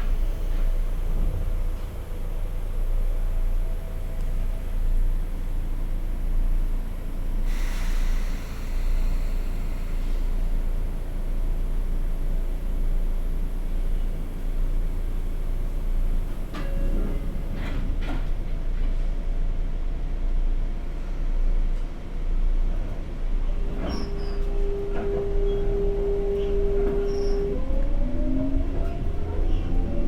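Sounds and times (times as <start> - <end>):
low train rumble: 0.0 - 30.0.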